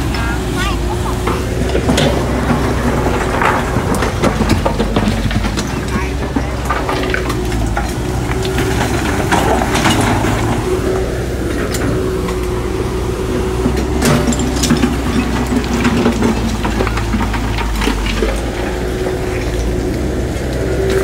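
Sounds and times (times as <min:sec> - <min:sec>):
heavy diesel machinery running: 0:00.0 - 0:21.0
metallic clanks and knocks: 0:00.0 - 0:21.0.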